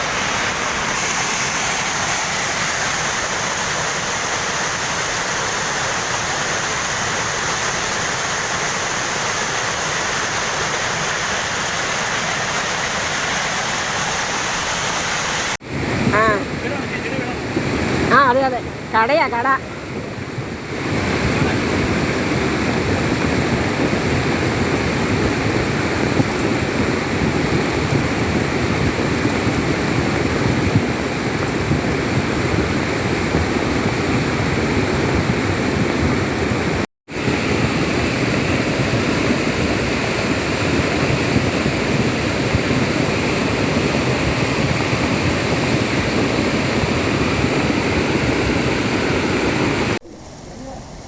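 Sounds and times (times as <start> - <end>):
floodwater rushing: 0.0 - 51.0.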